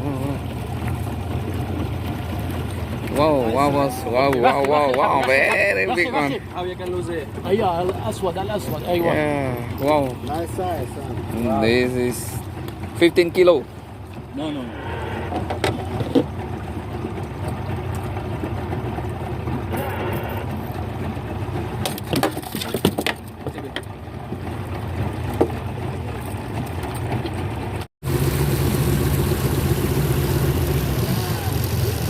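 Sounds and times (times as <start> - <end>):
knocks and clatters on boat: 0.0 - 14.4, 15.0 - 27.9
outboard motor running: 0.0 - 32.0.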